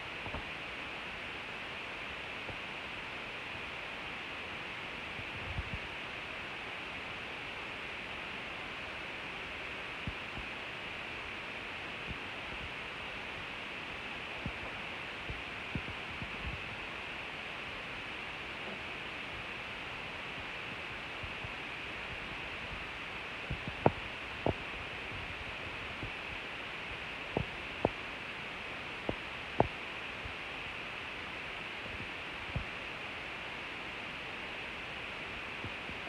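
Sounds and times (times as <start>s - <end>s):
background hiss: 0.0s - 36.0s.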